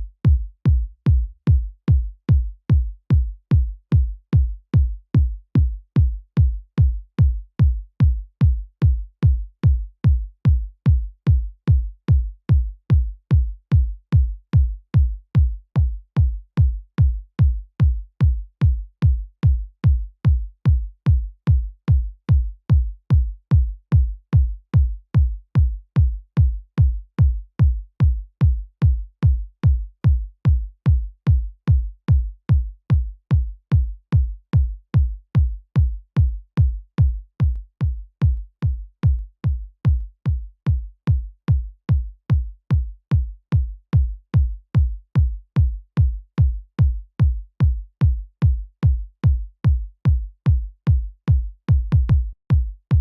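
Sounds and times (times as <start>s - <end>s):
electronic kick drum loop: 0.0s - 53.0s.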